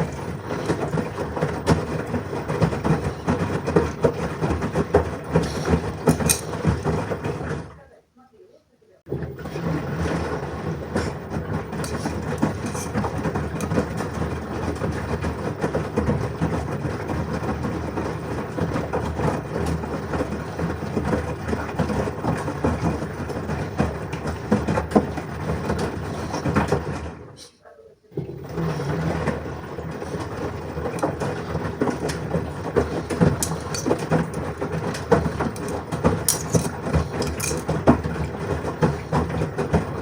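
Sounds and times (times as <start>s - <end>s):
washing machine drum turning: 0.0s - 7.7s, 9.1s - 27.4s, 28.2s - 40.0s.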